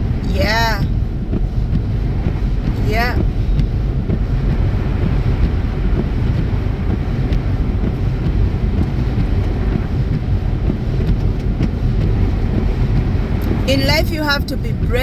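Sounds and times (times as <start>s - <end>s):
low rumble of car: 0.0s - 15.0s
tyres rolling on snowy road: 0.0s - 15.0s.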